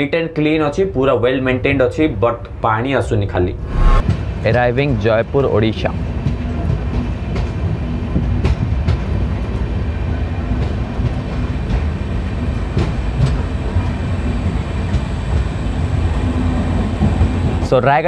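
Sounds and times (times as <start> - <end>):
train rumbling on rails: 3.4 - 18.0.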